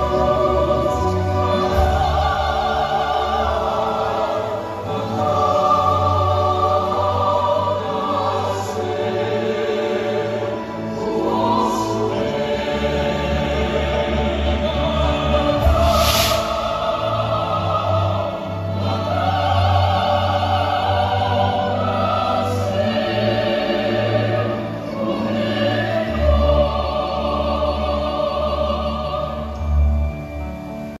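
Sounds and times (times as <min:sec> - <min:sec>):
choir singing: 0:00.0 - 0:31.0
operatic singing: 0:00.0 - 0:31.0
orchestra playing: 0:00.0 - 0:31.0.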